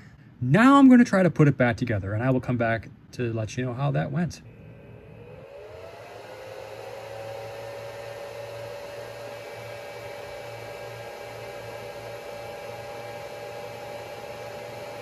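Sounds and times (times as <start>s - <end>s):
cooling fan whirring: 0.0s - 15.0s.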